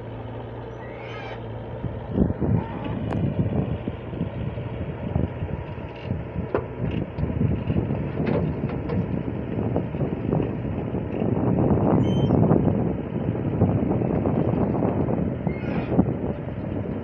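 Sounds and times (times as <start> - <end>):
diesel engine running steadily: 0.0 - 17.0
rough rumbling: 0.0 - 17.0.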